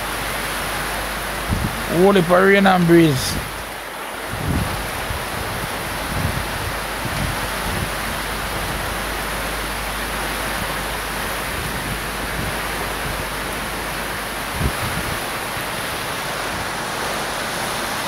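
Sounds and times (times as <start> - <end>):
wind gusts buffeting microphone: 0.0 - 17.8
heavy rain hissing: 0.0 - 18.0.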